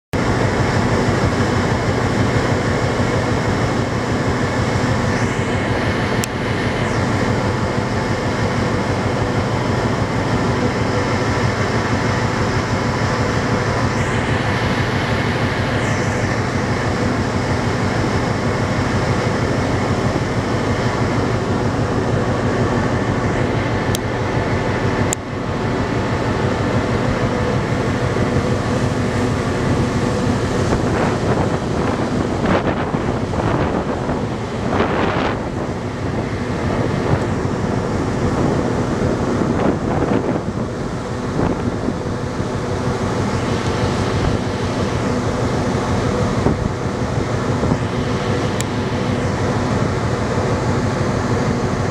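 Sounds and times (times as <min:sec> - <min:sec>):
ferry engines droning: 0:00.2 - 0:51.9
wind and water rushing: 0:00.2 - 0:51.9.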